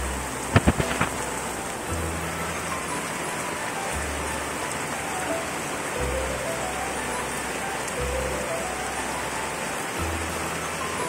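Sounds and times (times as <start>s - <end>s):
heavy rain on leaves: 0.0s - 11.0s.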